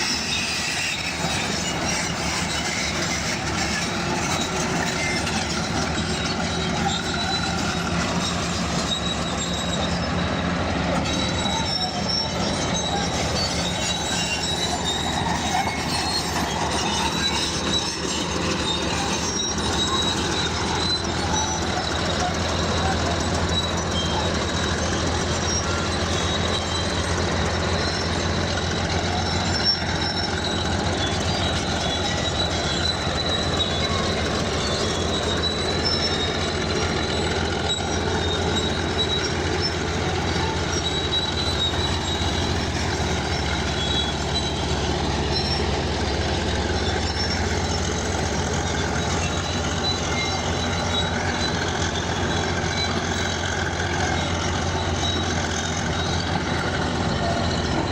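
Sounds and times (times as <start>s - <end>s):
bulldozer diesel engine: 0.0s - 57.9s
steel tracks squealing: 0.0s - 57.9s.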